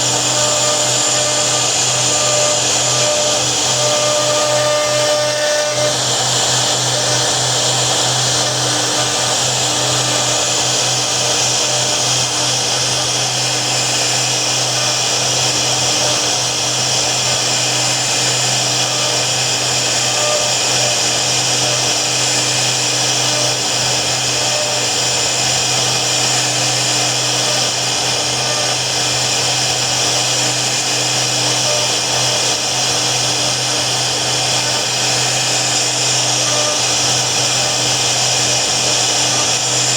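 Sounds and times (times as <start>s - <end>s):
cnc router spindle whine: 0.0s - 39.9s.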